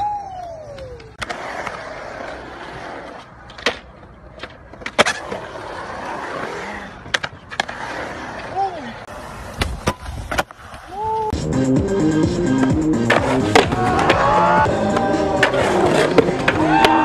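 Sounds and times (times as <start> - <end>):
skateboard wheels rolling on concrete: 0.0 - 17.0
skateboard clacking on ground: 0.3 - 11.3, 12.6 - 17.0.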